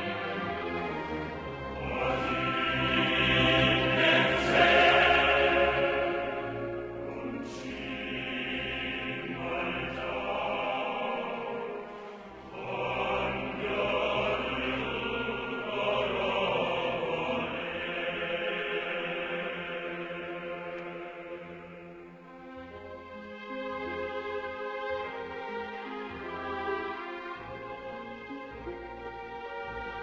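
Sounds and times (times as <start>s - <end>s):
choir singing long held notes: 0.0s - 30.0s.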